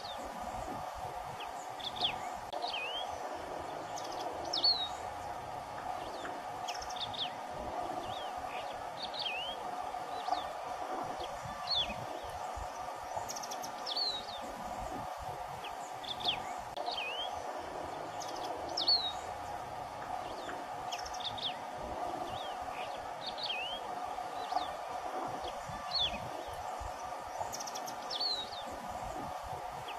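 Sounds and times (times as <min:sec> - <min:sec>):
bird chirping: 0:00.0 - 0:29.9
steady background hum: 0:00.0 - 0:29.9.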